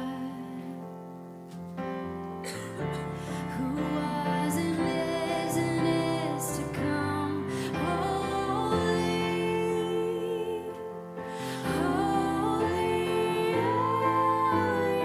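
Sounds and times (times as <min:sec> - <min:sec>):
live worship music chords: 0:00.0 - 0:15.0.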